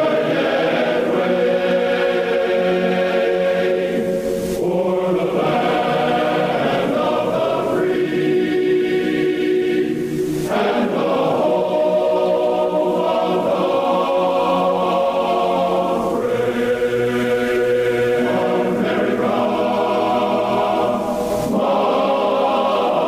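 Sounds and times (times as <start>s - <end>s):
choir singing an anthem: 0.0s - 23.0s.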